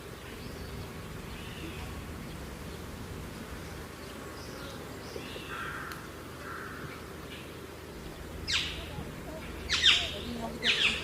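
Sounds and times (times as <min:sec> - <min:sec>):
birds calling: 0:00.0 - 0:11.0
low steady hum: 0:00.0 - 0:11.0.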